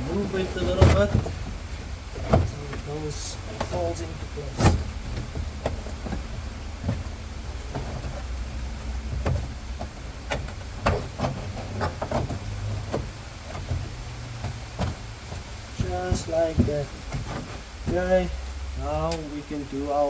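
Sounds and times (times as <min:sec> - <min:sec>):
steady rain: 0:00.0 - 0:20.0
trim panel knocks and rustles: 0:00.4 - 0:02.9, 0:03.5 - 0:18.0.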